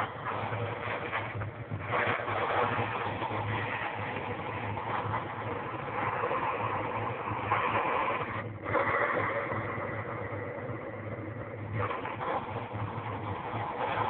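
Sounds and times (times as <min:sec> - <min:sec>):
steamer hissing steam: 0:00.0 - 0:14.0.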